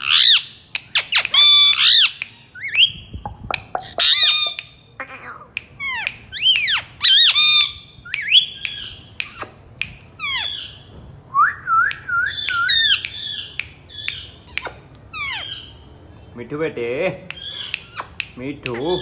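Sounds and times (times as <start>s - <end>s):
parakeet squawking and screeching: 0.0s - 3.2s, 3.8s - 10.9s, 12.3s - 16.0s, 17.3s - 19.0s.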